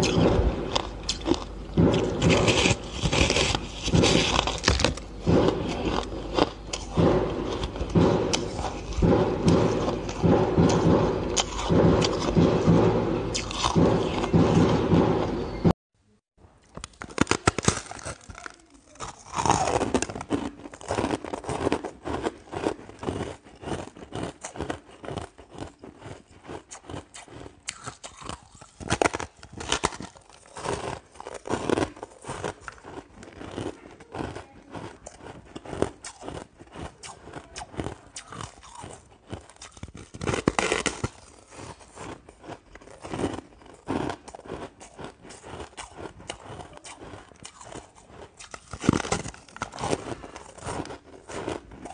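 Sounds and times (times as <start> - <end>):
ice being chewed crunching: 0.0 - 14.3, 16.7 - 51.9.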